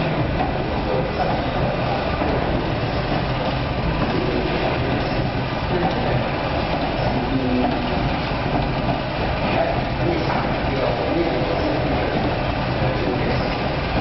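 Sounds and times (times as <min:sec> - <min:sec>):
roasting machine drum rotating: 0:00.0 - 0:14.0.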